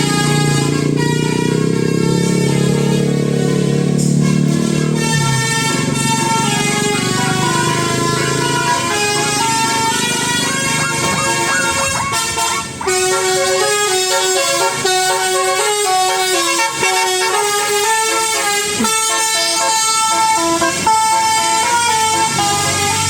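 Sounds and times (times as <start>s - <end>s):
musical bus horn melody: 0.0s - 23.0s.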